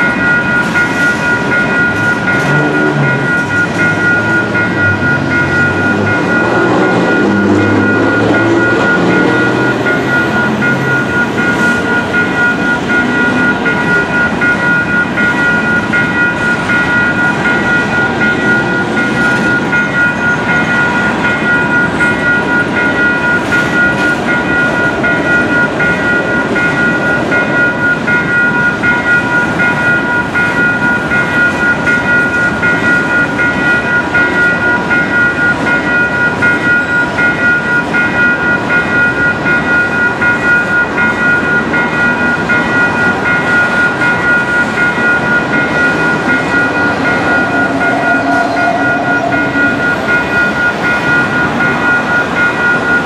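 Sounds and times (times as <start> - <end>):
crossing warning bell ringing: 0.0 - 53.0
train wheels rumbling on rails: 0.0 - 53.0.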